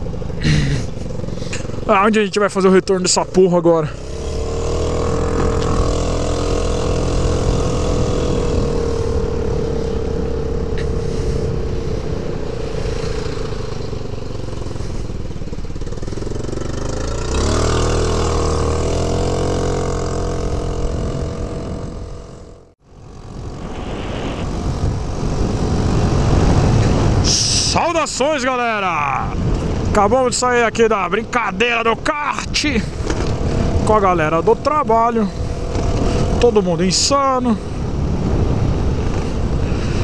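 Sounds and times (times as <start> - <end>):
scooter engine running: 0.0 - 28.0, 28.7 - 40.0
road and wind noise: 0.0 - 40.0.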